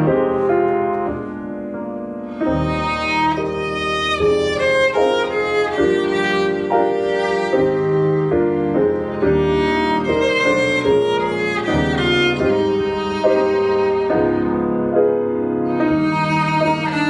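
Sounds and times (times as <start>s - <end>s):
instrumental classical music: 0.0s - 17.0s.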